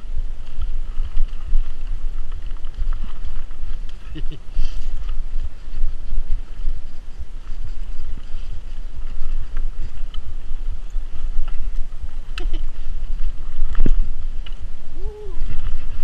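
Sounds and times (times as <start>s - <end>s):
mountain bike rattling: 0.0s - 16.0s
wind on microphone: 0.0s - 16.0s.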